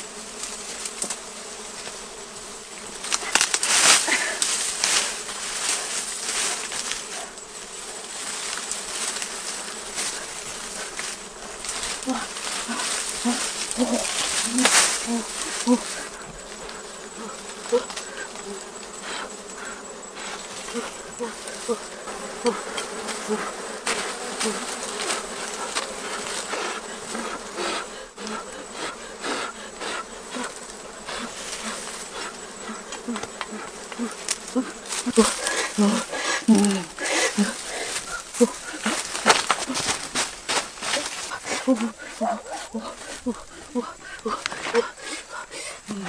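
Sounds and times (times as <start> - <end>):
bees droning past: 0.0 - 45.1
honeybees buzzing: 0.0 - 46.0.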